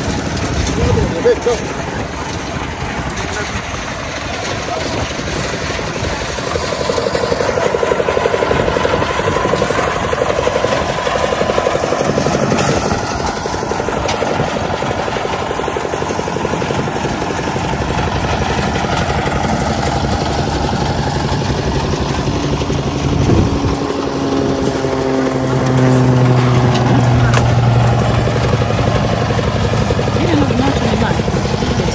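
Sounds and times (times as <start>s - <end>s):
machinery engine running: 0.0s - 31.9s
workers' voices: 0.0s - 31.9s.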